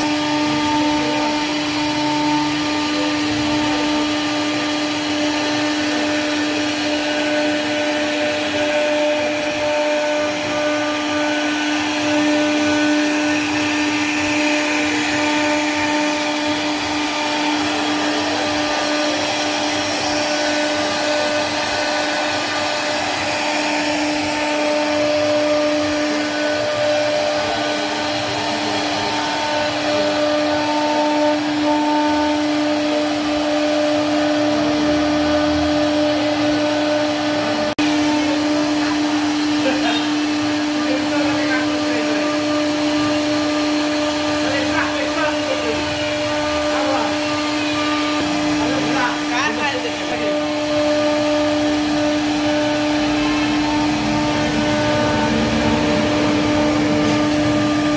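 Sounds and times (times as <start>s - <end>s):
cutter hissing through wood: 0.0s - 57.9s
router spindle motor whine: 0.0s - 57.9s.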